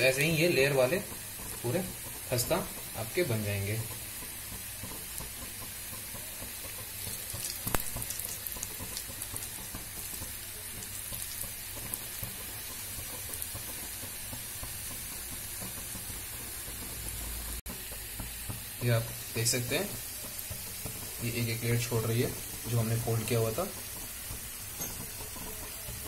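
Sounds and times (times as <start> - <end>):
dough deep-frying in oil: 0.0 - 26.0
oil crackling: 0.0 - 26.0.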